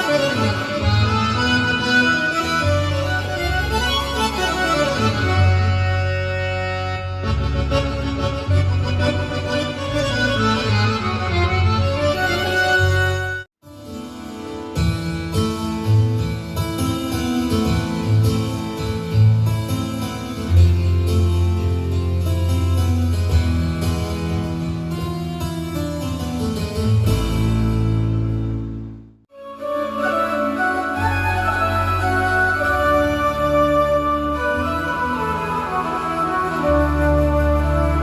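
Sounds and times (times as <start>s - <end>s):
held bass notes: 0.0s - 13.4s, 14.8s - 38.0s
keyboard playing chords: 0.0s - 13.5s, 15.3s - 38.0s
plucked string melody: 0.0s - 38.0s.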